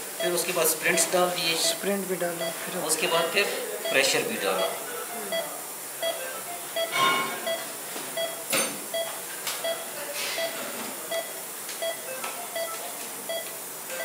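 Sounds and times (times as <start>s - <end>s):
patient monitor beeping: 0.0s - 14.0s.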